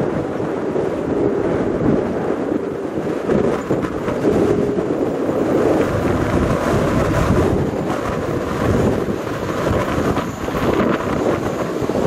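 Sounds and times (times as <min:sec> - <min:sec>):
train rumble on track: 0:00.0 - 0:12.0
wind buffeting microphone: 0:00.0 - 0:12.0.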